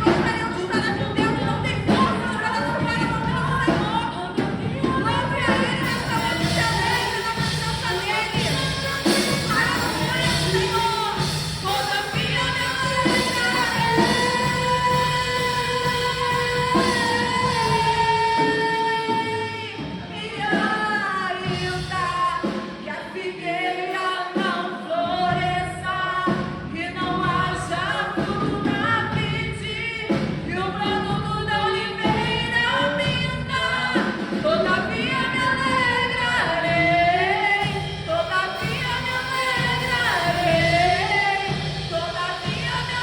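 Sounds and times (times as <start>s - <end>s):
full band with drums: 0.0s - 43.0s
woman-led group singing gospel: 0.0s - 43.0s.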